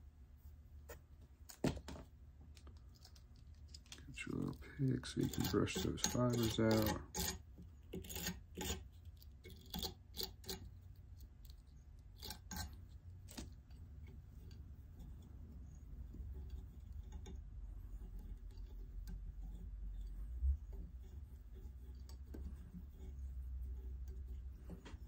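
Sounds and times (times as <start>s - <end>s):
low steady hum: 0.0s - 25.0s
brush scratching fibers: 2.9s - 25.0s.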